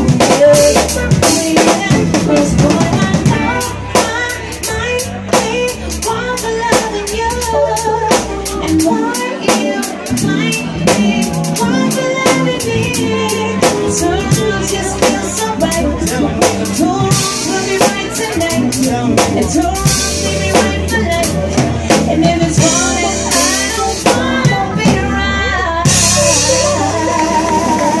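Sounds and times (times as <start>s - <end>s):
drum kit beat: 0.0s - 28.0s
keyboard: 0.0s - 28.0s
woman singing into a microphone: 0.0s - 28.0s.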